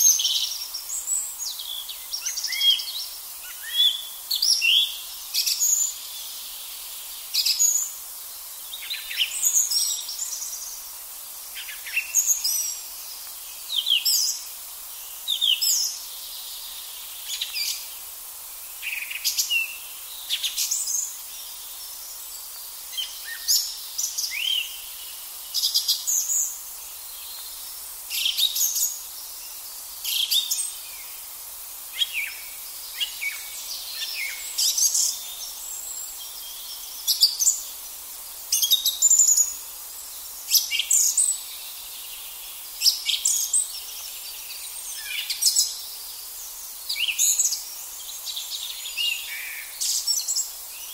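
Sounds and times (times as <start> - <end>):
song thrush singing: 0.0 - 50.9
steady background hiss: 0.0 - 50.9.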